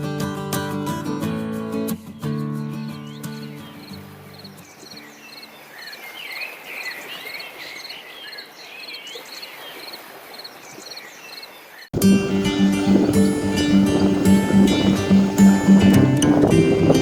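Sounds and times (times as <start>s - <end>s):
birds twittering: 2.2s - 17.0s.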